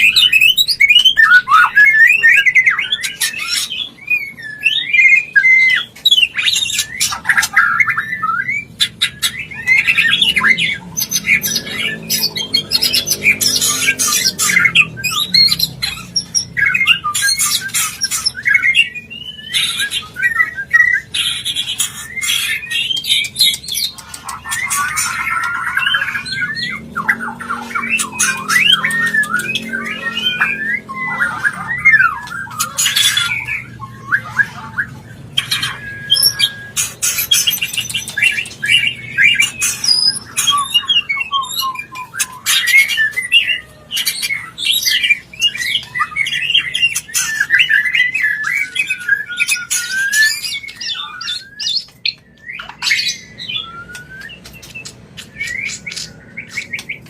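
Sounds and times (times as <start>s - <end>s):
bird harsh squawking: 0.0s - 57.0s
songbird whistled trills: 0.0s - 57.0s.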